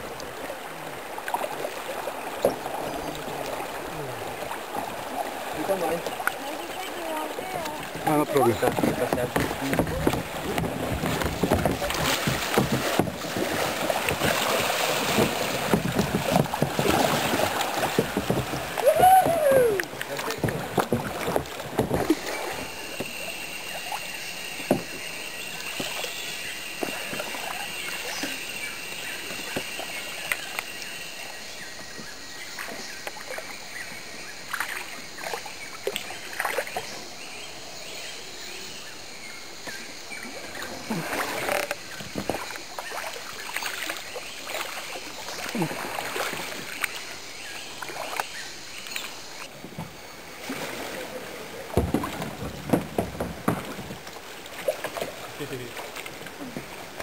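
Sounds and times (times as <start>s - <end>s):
paddles splashing in water: 0.0s - 57.0s.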